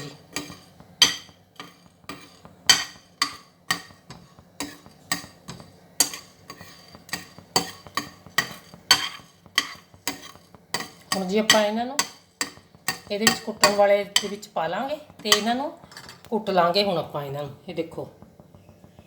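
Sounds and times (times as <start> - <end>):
utensil scraping and tapping pan: 0.0 - 16.3
spices roasting in a pan: 0.0 - 19.0.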